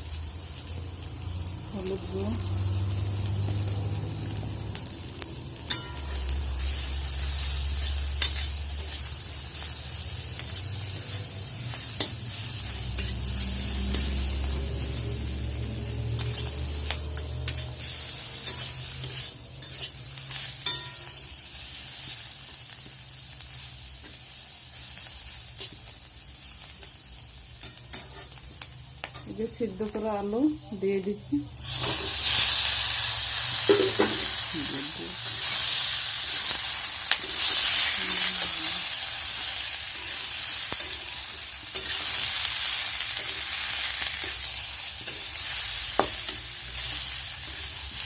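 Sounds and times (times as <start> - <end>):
spices sizzling in oil: 0.0 - 48.0.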